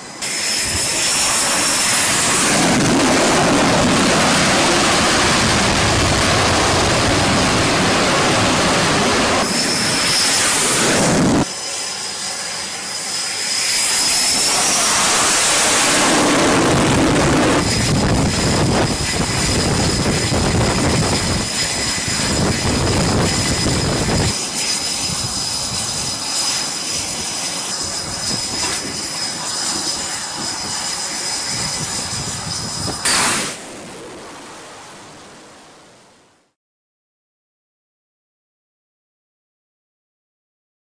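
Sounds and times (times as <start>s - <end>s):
jet engines roaring with whine: 0.0s - 36.6s.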